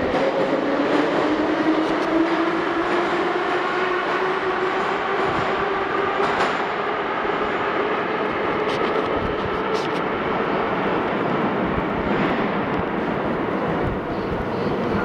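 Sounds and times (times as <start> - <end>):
metro train rumble: 0.0 - 15.0
murmur of passengers: 0.0 - 15.0.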